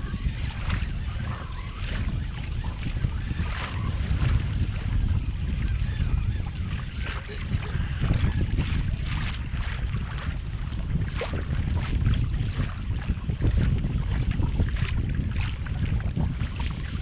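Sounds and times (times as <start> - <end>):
waves slapping kayak hull: 0.0 - 17.0
wind buffeting microphone: 0.0 - 17.0.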